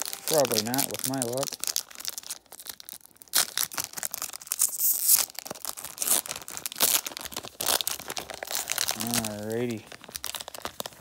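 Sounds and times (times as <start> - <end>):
foil pack crinkling: 0.0 - 11.0
foil tearing: 0.0 - 11.0.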